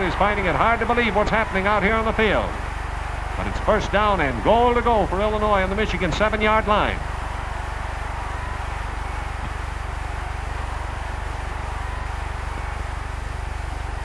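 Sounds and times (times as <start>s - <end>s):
film soundtrack hiss and hum: 0.0s - 14.0s.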